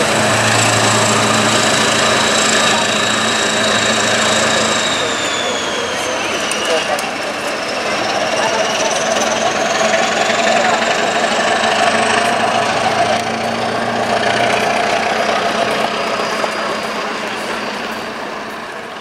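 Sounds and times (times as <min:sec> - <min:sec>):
diesel locomotive working hard: 0:00.0 - 0:19.0
thin high whine: 0:00.0 - 0:19.0.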